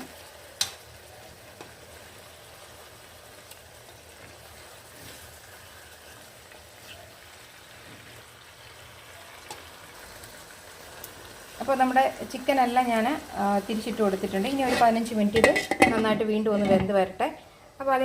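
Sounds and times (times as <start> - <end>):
chicken sizzling in a pot: 0.0 - 18.0.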